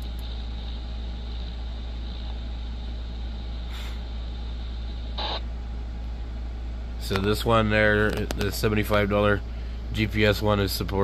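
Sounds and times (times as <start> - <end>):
room and equipment hum: 0.0 - 11.0.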